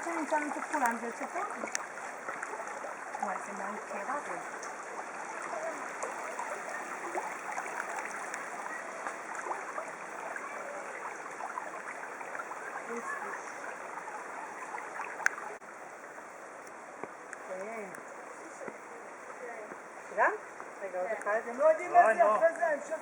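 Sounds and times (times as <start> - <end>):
stream flowing over rocks: 0.0 - 22.7.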